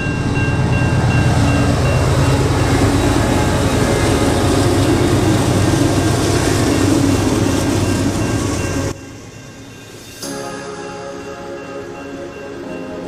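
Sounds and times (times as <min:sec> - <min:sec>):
diesel locomotives droning: 0:00.0 - 0:13.0
pulsing high tone: 0:00.0 - 0:13.0.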